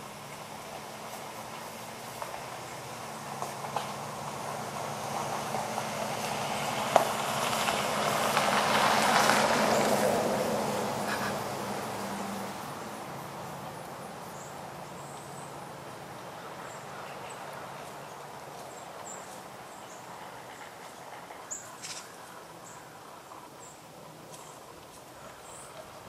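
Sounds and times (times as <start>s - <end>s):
outdoor background rush: 0.0s - 26.0s.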